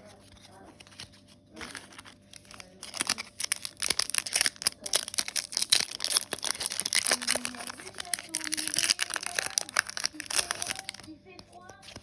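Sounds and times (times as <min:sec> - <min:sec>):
foil wrapper crinkling: 0:00.1 - 0:12.0.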